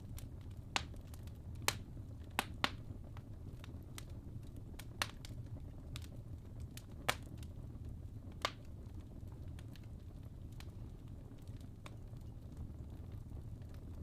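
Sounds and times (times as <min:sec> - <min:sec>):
fireplace fire rumbling: 0:00.0 - 0:14.0
logs crackling and popping: 0:00.0 - 0:14.0.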